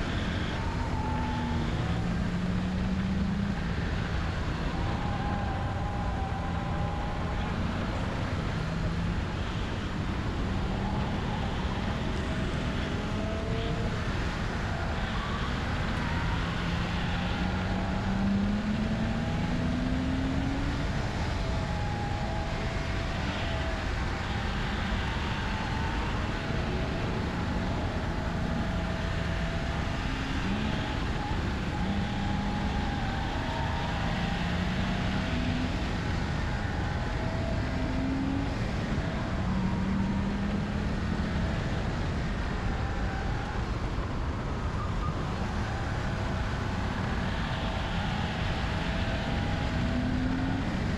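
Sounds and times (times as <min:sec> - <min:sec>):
road noise: 0:00.0 - 0:50.9
wind noise: 0:00.0 - 0:50.9.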